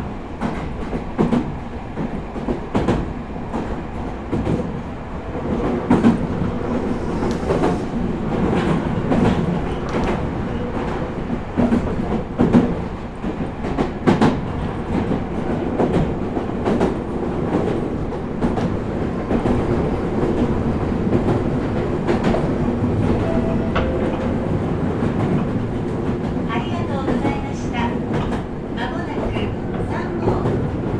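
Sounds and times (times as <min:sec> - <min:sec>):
train rolling rumble: 0:00.0 - 0:30.9.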